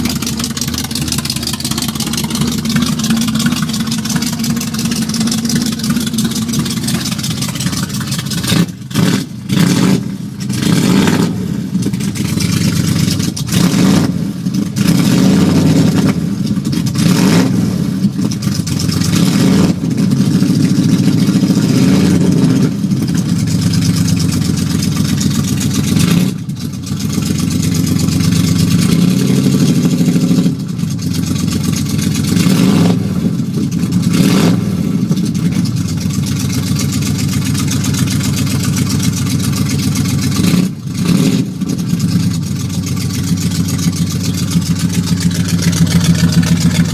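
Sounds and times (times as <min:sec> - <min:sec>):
loud engine warming up: 0:00.0 - 0:46.9.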